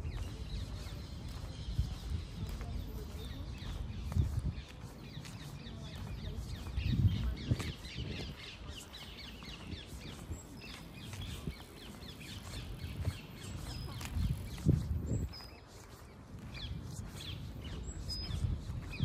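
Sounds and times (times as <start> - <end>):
small birds chirping and singing: 0.0 - 19.0.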